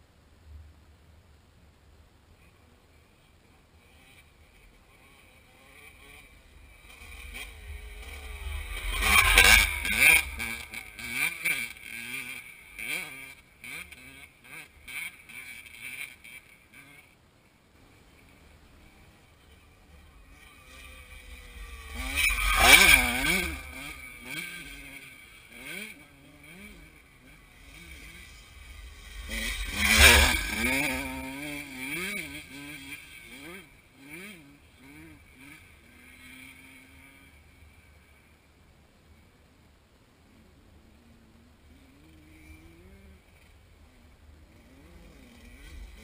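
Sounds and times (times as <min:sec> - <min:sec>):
dirt bike passing and revving: 0:02.4 - 0:39.3, 0:40.2 - 0:46.0.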